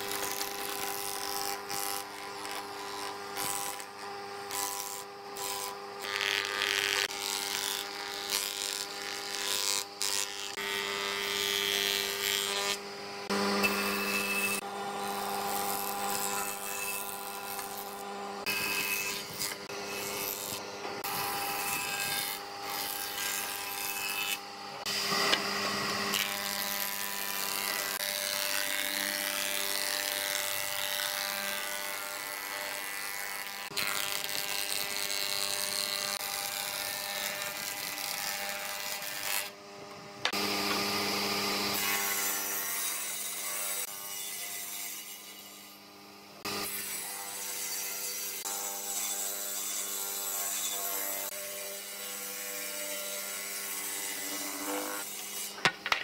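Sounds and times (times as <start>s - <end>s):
table saw ripping wood: 0.0s - 39.6s, 40.2s - 45.1s, 46.4s - 56.0s
planer shaving wood: 0.0s - 56.0s.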